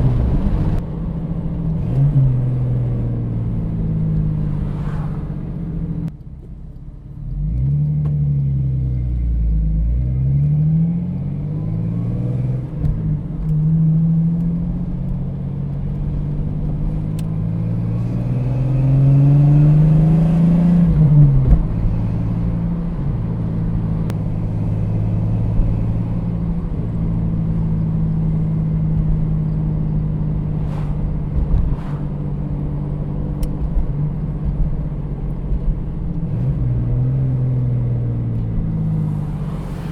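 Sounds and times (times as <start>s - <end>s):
car exhaust note while driving: 0.0s - 39.9s.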